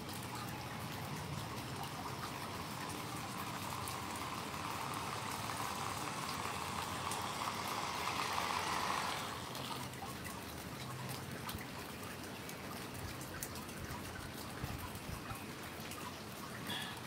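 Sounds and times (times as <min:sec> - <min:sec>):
small rover driving on wet concrete: 0:00.0 - 0:13.7
rain pattering and dripping: 0:00.0 - 0:17.0.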